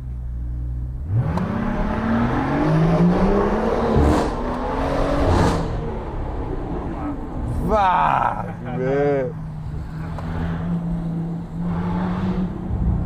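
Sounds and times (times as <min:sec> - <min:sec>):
car engine accelerating: 0:00.7 - 0:13.0.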